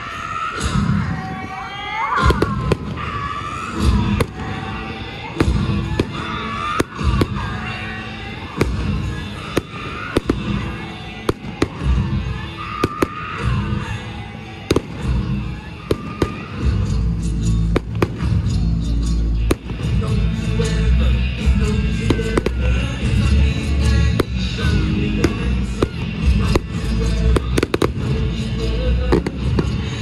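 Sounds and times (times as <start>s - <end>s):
music playing: 0.0s - 30.0s
fireworks bangs: 0.6s - 30.0s.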